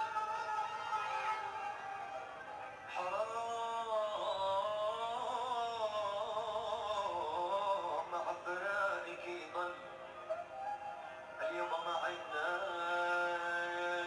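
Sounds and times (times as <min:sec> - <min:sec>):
man singing with ornamented pitch: 0:00.0 - 0:14.0.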